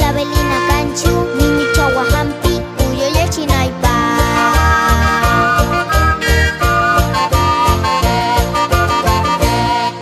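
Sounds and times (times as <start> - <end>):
music with quick beat and bright melody: 0.0 - 10.0.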